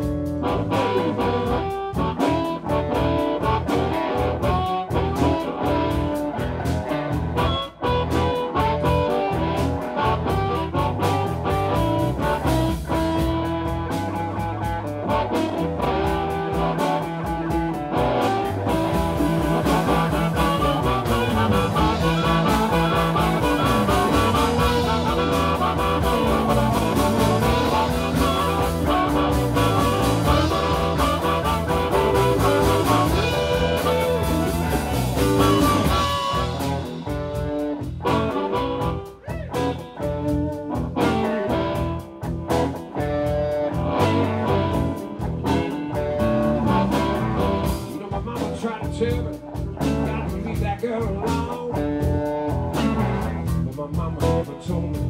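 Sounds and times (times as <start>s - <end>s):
bass line: 0.0s - 55.0s
blues band playing: 0.0s - 55.0s
lead guitar: 0.0s - 55.0s.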